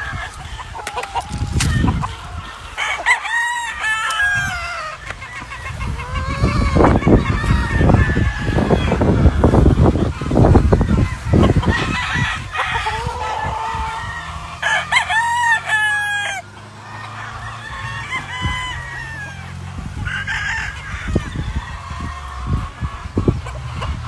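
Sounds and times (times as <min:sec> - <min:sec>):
roosters crowing: 0:00.0 - 0:24.0.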